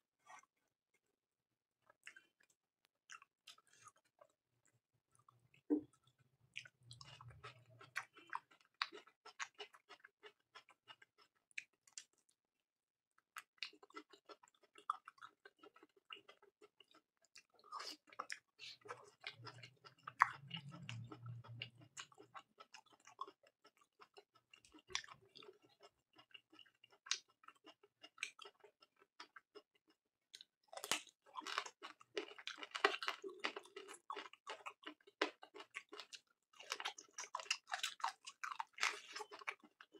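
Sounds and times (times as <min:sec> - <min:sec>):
person chewing with mouth smacks: 0:01.8 - 0:12.3, 0:13.4 - 0:39.9.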